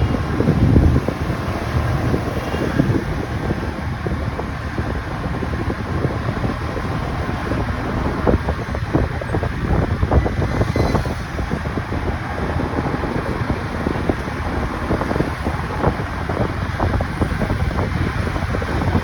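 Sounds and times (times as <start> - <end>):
motorcycle engine rumble: 0.0 - 19.0
road noise: 0.0 - 19.0
wind buffeting microphone: 0.0 - 19.0.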